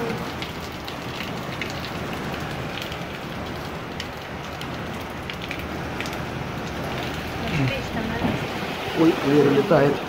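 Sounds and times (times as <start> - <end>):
heavy rain splashing: 0.0 - 10.0.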